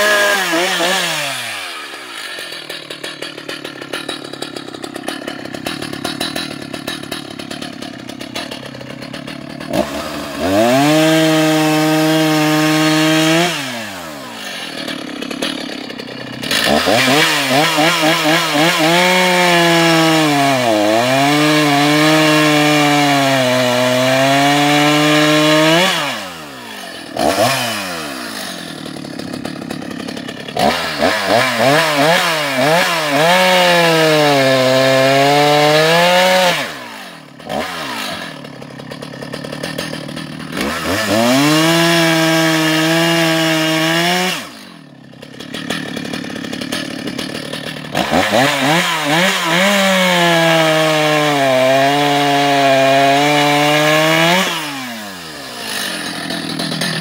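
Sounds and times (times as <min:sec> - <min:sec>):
chainsaw cutting logs: 0:00.0 - 0:57.0
chainsaw idling with throttle blips: 0:00.0 - 0:57.0.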